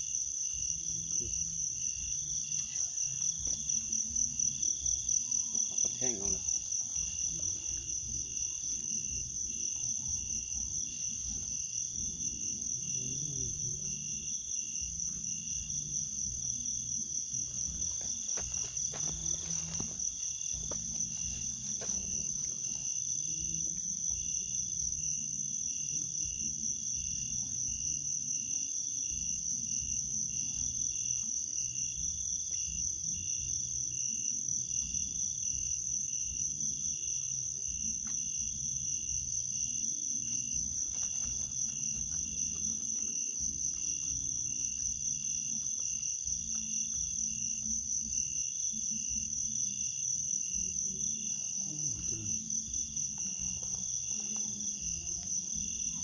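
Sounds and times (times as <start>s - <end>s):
crickets trilling: 0.0s - 56.0s
lower pulsing insect trill: 0.0s - 56.0s.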